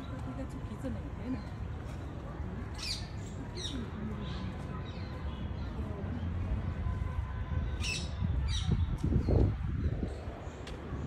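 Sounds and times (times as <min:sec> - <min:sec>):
murmur of distant voices: 0:00.0 - 0:11.0.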